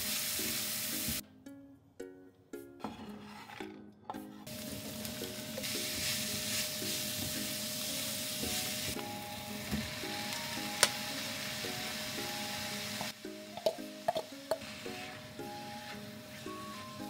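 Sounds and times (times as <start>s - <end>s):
onions sizzling in oil: 0.0s - 1.2s, 4.5s - 17.0s.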